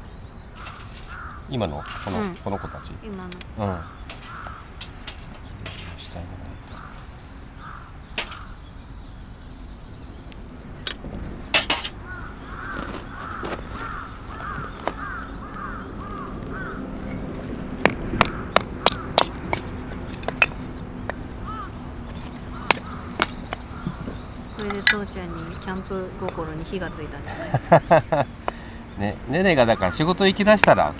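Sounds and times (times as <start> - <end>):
crow cawing: 0.6 - 8.8, 11.5 - 30.9.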